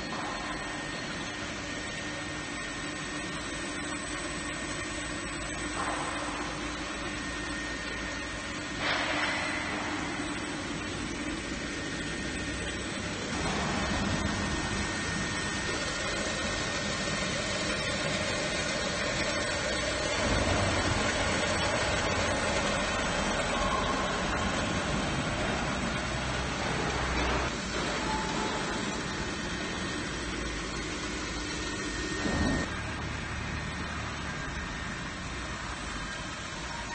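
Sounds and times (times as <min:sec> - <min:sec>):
machine running: 0:00.0 - 0:36.9.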